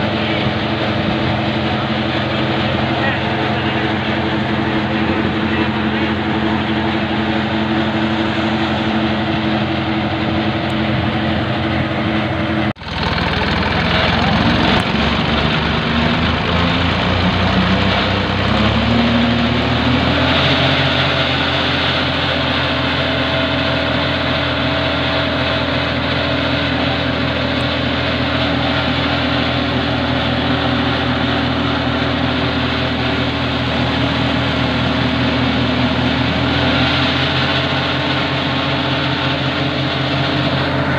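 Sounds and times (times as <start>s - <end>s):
tractor engine revving: 0.0s - 40.9s.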